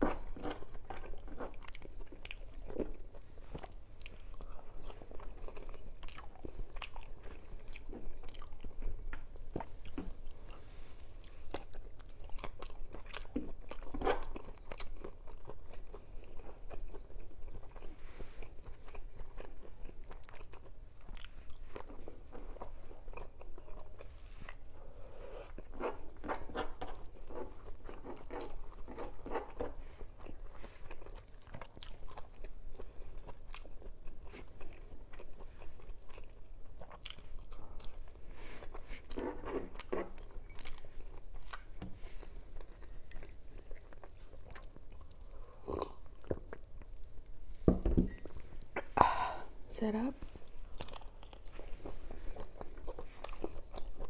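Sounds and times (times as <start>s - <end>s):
person chewing and crunching: 0.0s - 47.6s, 50.2s - 54.0s.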